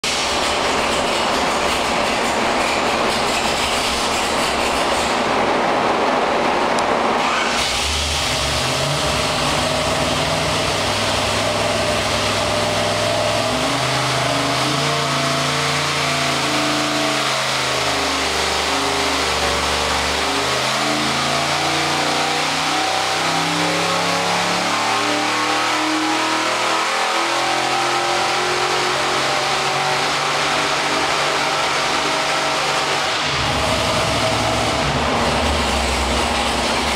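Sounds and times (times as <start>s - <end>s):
engine running at high revs: 0.0s - 36.9s.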